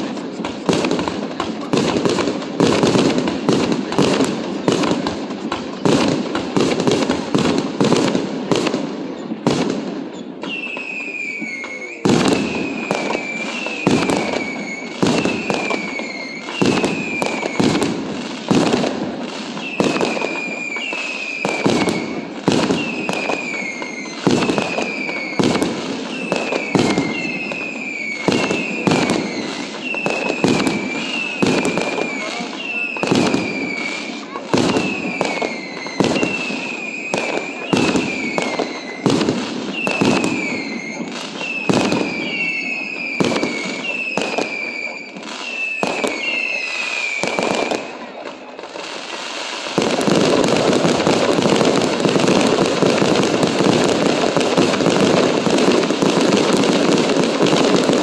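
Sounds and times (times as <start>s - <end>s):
fireworks bangs and crackling: 0.0s - 58.0s
whistling fireworks: 0.0s - 58.0s.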